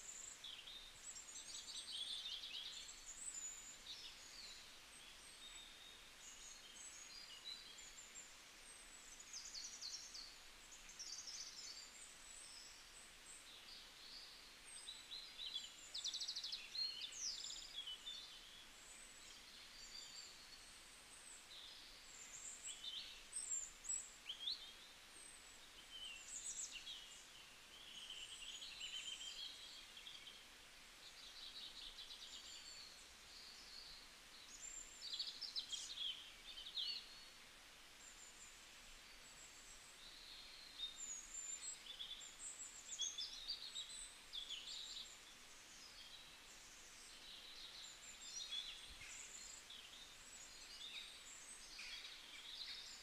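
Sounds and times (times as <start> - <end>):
faint steady hiss: 0.0 - 53.0
small birds chirping: 0.0 - 53.0.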